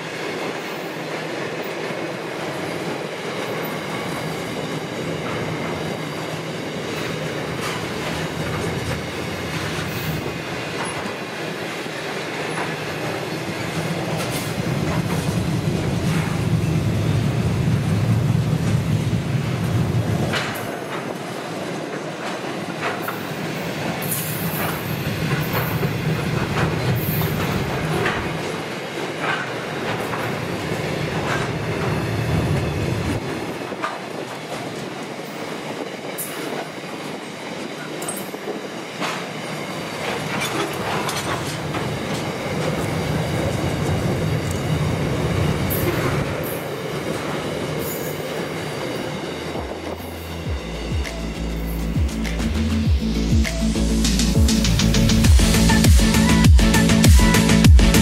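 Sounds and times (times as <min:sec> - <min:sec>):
clickety-clack over rail joints: 0:00.0 - 0:50.3
train wheels rumbling on rails: 0:00.0 - 0:58.0.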